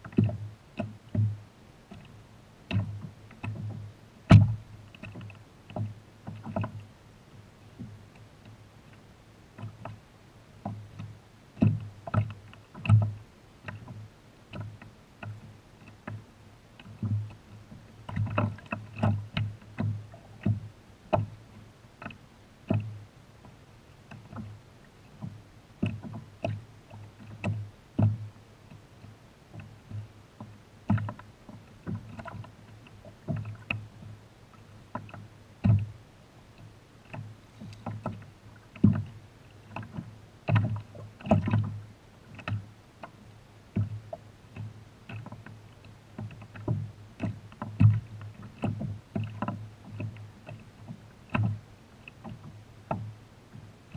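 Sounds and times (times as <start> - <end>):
waves slapping kayak hull: 0.0 - 53.9.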